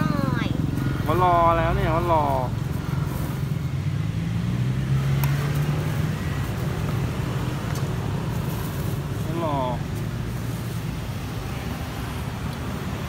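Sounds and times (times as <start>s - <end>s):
street traffic drone: 0.0s - 13.0s
vehicle engine running nearby: 0.0s - 13.0s.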